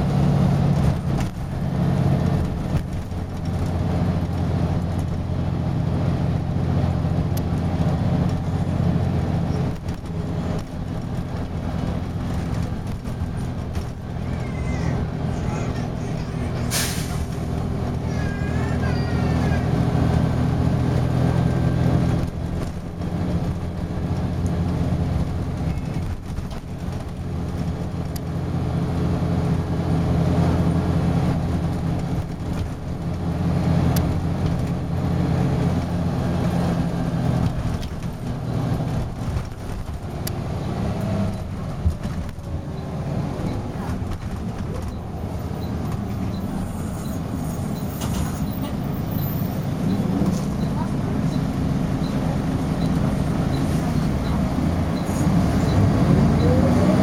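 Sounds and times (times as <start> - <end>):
bus diesel engine revving: 0.0 - 57.0.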